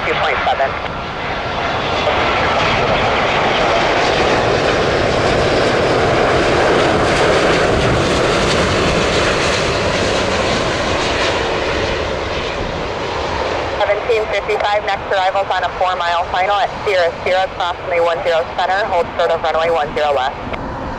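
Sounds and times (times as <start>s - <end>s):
jet airliner passing: 0.0s - 20.9s.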